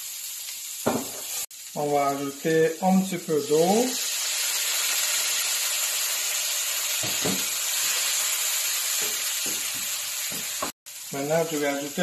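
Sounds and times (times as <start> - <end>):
frying pan sizzling: 0.0 - 12.0.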